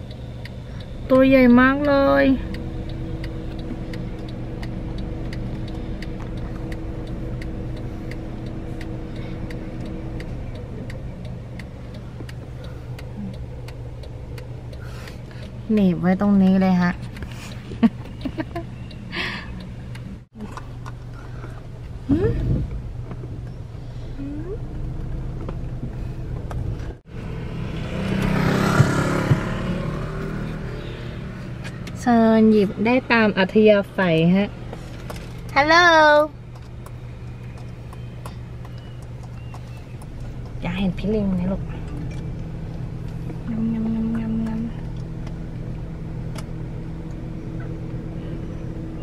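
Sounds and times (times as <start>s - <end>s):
steady hum: 0.0s - 28.2s, 30.4s - 49.0s
car engine idling: 0.0s - 49.0s
turn signal ticking: 0.0s - 49.0s.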